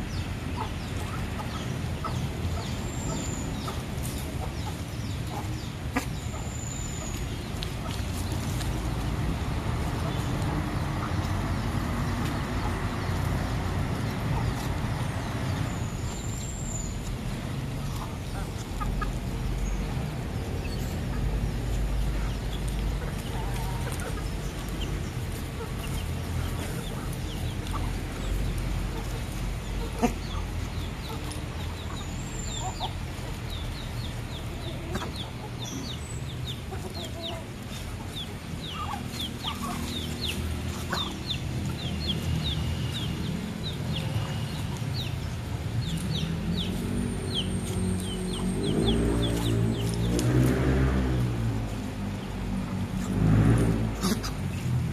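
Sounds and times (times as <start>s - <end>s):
chickens clucking: 0.0s - 54.9s
chicks peeping: 0.0s - 54.9s.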